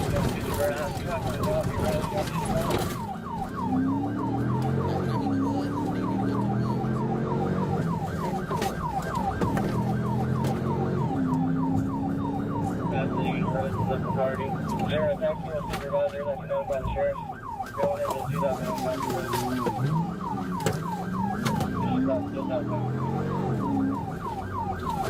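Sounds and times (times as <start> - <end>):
vehicle engine accelerating: 0.0 - 14.9, 18.3 - 25.0
police siren yelp: 0.0 - 25.0.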